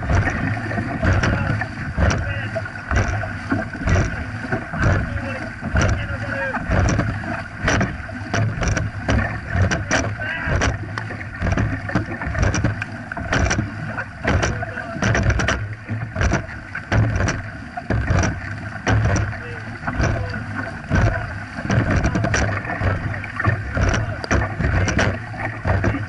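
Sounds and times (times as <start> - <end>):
paddles splashing in water: 0.0 - 26.0
water rushing along hull: 0.0 - 26.0.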